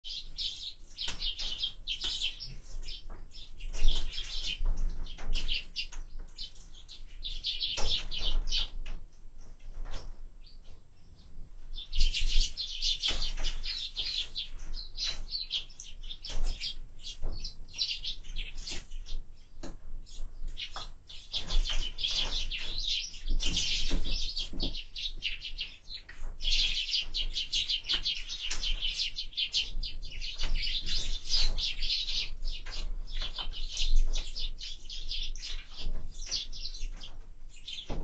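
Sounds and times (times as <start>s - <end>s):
sparrows chirping: 0.0s - 38.0s.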